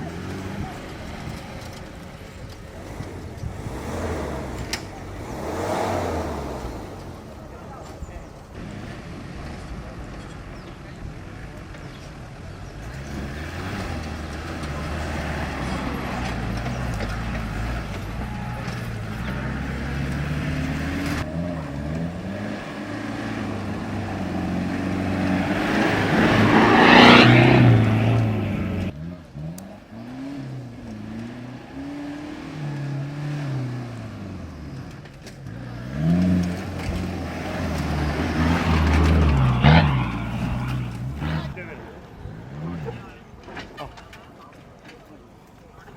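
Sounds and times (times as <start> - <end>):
off-road engine revving: 0.0 - 45.9.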